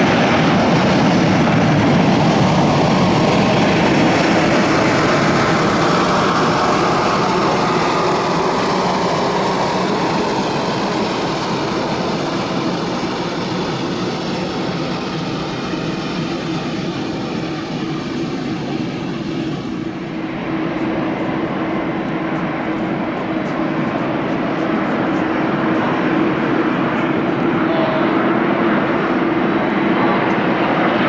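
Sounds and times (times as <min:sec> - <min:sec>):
airliner jet noise: 0:00.0 - 0:31.0.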